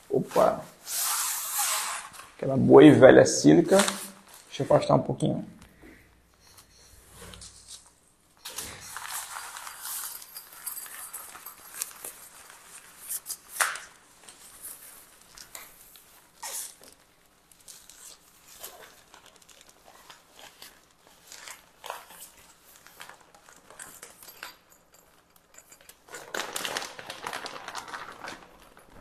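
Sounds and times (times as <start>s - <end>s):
nylon fabric rustling: 0.0s - 2.5s, 7.0s - 29.0s.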